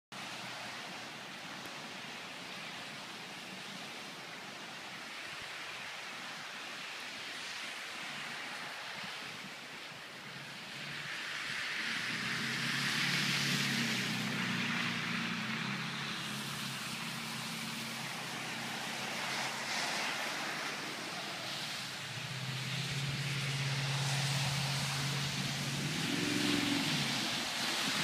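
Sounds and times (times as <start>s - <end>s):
broad hiss: 0.2s - 28.0s.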